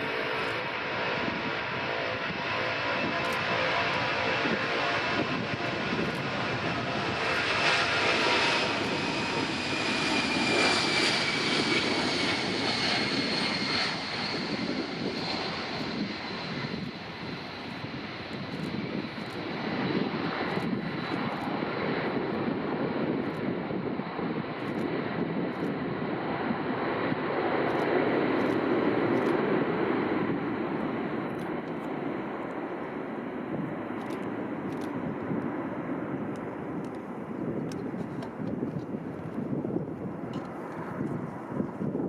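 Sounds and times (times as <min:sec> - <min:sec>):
jet engines whining: 0:00.0 - 0:42.0.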